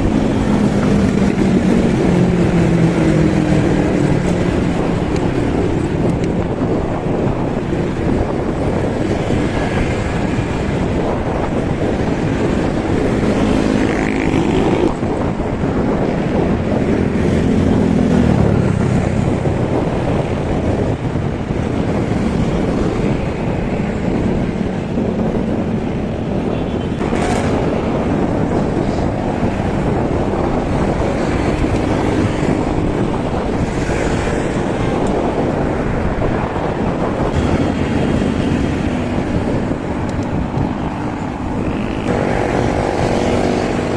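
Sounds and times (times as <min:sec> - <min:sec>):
motor vehicle engine hum: 0:00.0 - 0:43.9
road traffic: 0:00.0 - 0:43.9
wind on microphone: 0:00.0 - 0:43.9.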